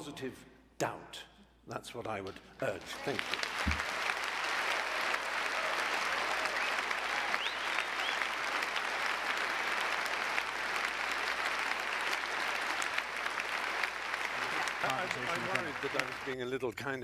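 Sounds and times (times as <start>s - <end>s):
audience applauding: 2.8s - 16.4s.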